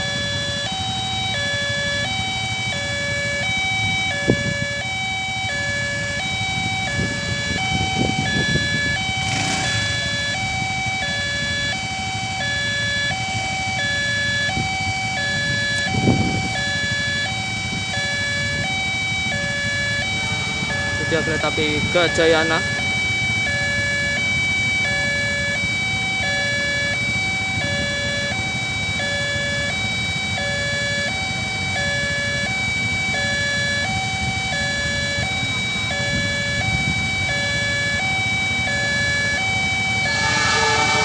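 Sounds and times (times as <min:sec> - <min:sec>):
constant high tone: 0:00.0 - 0:41.0
road traffic rumble: 0:00.0 - 0:41.0
two-tone warning chime: 0:00.0 - 0:41.0.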